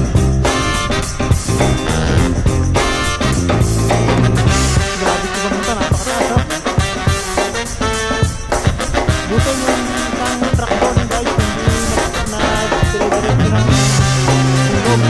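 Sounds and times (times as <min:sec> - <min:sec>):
upbeat music with drums and bass: 0:00.0 - 0:15.0.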